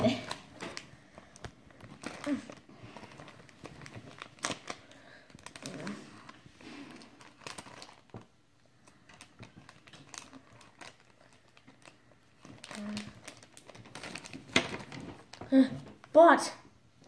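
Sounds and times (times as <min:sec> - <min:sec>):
foil wrapper crinkling and tearing: 0:00.0 - 0:15.4.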